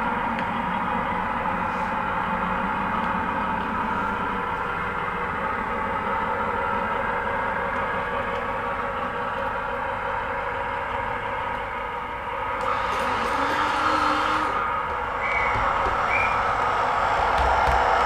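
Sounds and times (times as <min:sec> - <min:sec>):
model train drone: 0:00.0 - 0:18.0.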